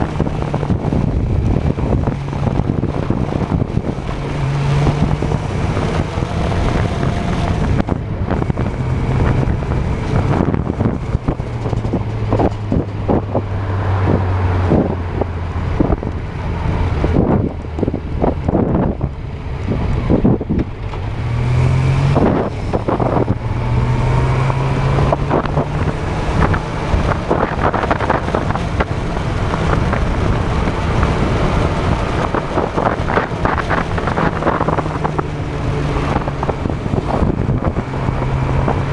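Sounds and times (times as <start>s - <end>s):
motorcycle engine revving: 0.0s - 38.9s
wind buffeting microphone: 0.0s - 38.9s.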